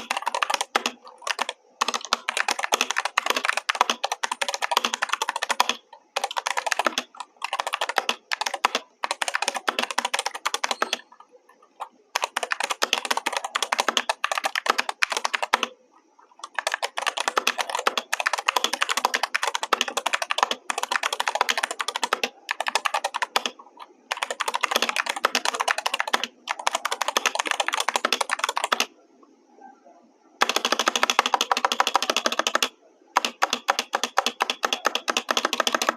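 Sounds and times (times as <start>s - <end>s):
mechanical keyboard typing: 0.0s - 15.8s, 16.4s - 28.9s, 30.4s - 35.9s.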